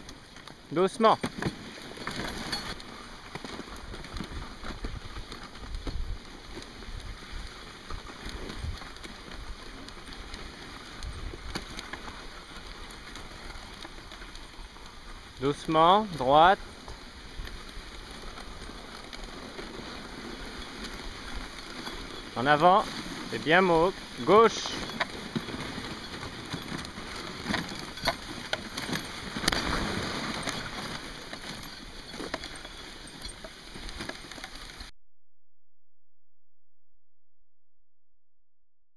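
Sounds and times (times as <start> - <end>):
sled runners hissing over snow: 0.0 - 34.9
small clicks and crunches: 0.0 - 34.9.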